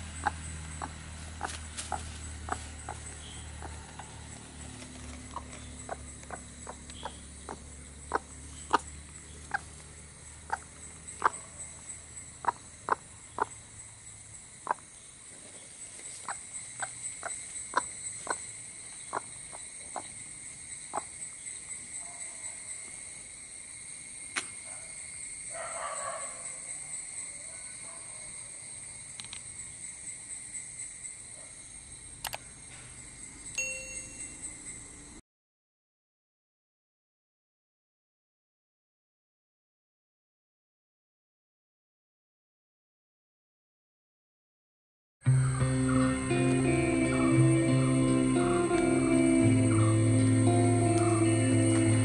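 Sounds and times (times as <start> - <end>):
insect trilling: 0.0 - 35.2, 45.3 - 52.0.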